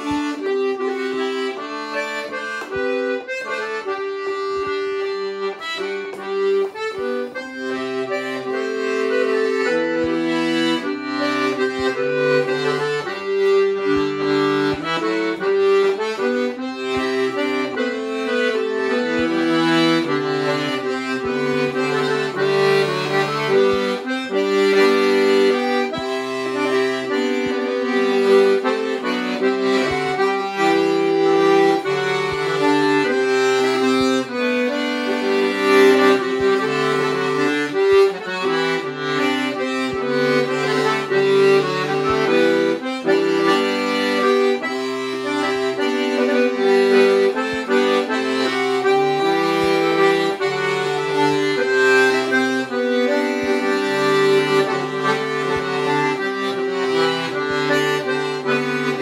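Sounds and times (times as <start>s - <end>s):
button accordion playing dance tune: 0.0s - 59.0s.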